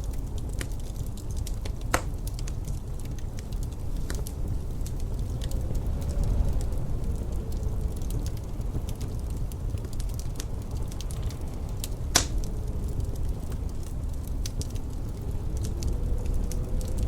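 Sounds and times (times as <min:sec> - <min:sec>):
faint wind howl: 0:00.0 - 0:17.0
wood fire crackling: 0:00.0 - 0:17.0.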